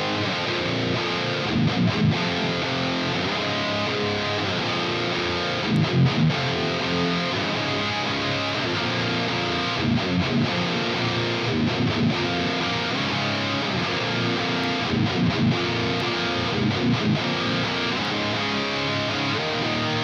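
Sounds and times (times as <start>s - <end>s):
distorted electric guitar riffing: 0.0s - 20.0s.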